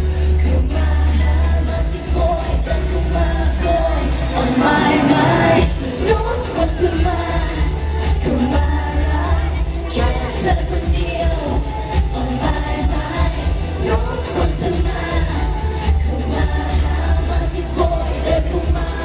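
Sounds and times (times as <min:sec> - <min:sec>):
girl group singing pop music: 0:00.0 - 0:19.0.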